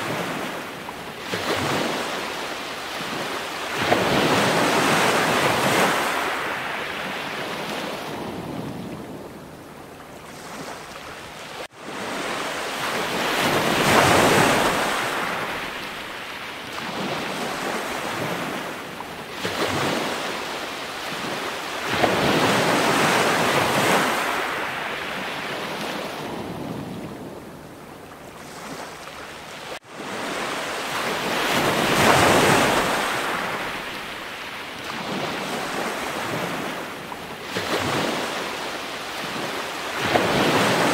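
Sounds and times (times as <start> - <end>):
waves washing in: 0.0 - 40.9.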